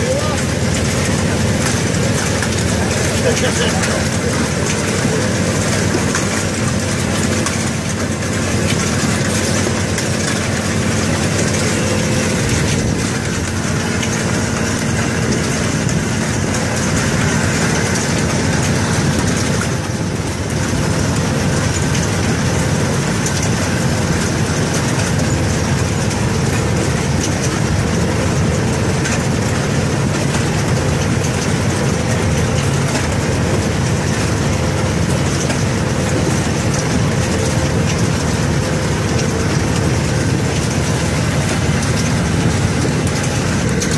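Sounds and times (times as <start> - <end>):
belt conveyor clattering: 0.0 - 43.9
truck engine: 0.0 - 43.9.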